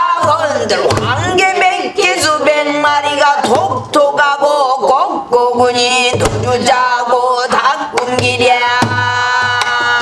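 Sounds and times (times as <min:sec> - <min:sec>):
woman singing: 0:00.0 - 0:10.0.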